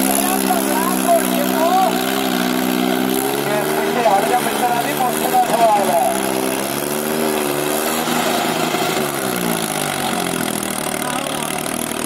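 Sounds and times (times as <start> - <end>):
diesel tractor engine revving: 0.0 - 12.0.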